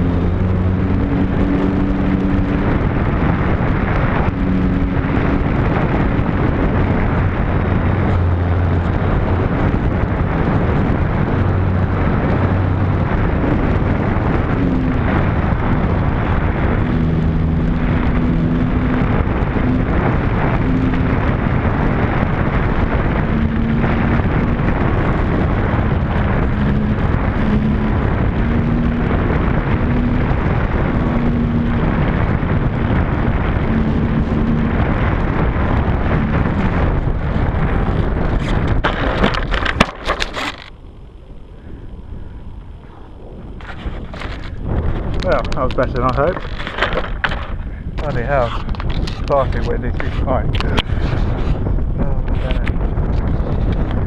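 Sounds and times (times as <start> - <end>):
model motor and propeller: 0.0 - 54.0
wind buffeting microphone: 0.0 - 54.0.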